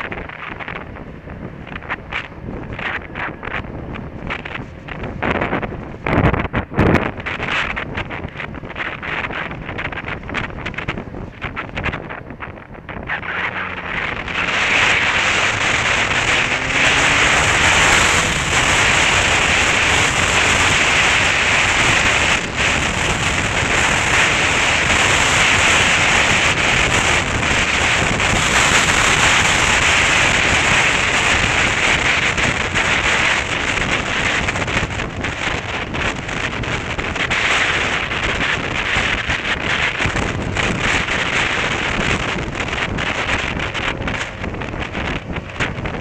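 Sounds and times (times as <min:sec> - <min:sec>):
wind rushing over microphone: 0:00.0 - 0:46.0.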